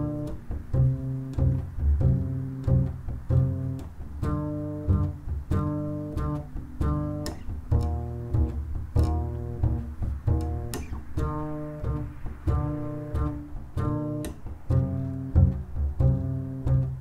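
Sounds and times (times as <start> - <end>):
plucked low string instrument: 0.0 - 17.0.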